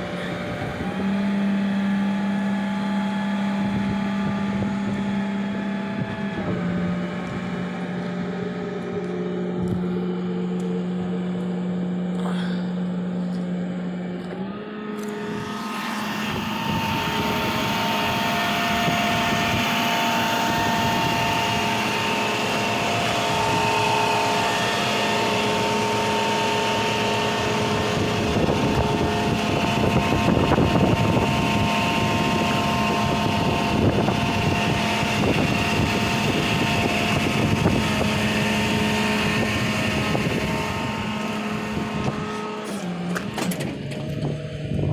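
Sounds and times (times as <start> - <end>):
rough mechanical running sound: 0.0 - 44.9
tow truck engine humming: 0.0 - 44.9.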